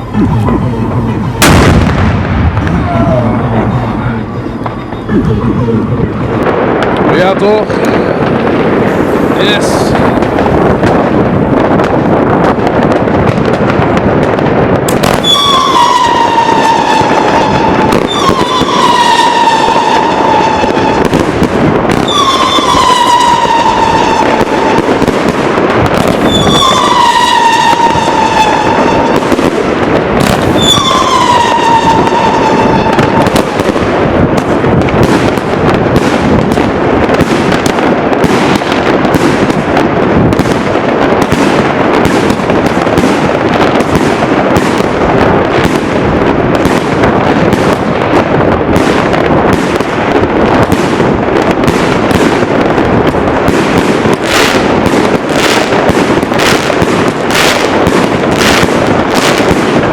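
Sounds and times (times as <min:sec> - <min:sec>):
whistling firework: 0:00.0 - 0:14.0, 0:14.8 - 0:52.8, 0:53.4 - 0:59.9
fireworks bangs and crackling: 0:00.0 - 0:59.9.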